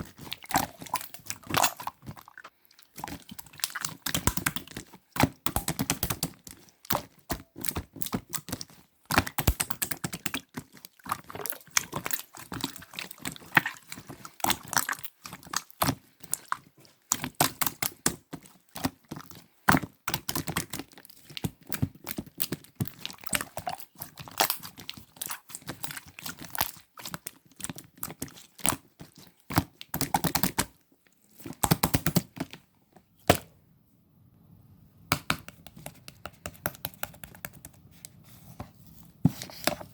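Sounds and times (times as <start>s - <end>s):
slime squelching and clicking: 0.0s - 32.6s, 35.1s - 38.2s.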